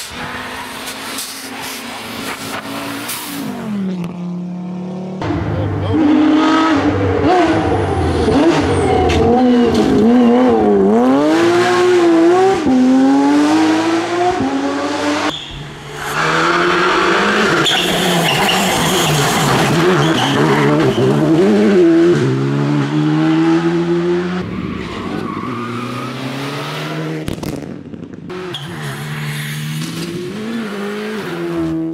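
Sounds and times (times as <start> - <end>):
rally car engine under power: 0.0 - 31.9
rally car engine revving hard: 0.8 - 15.3, 16.0 - 31.9.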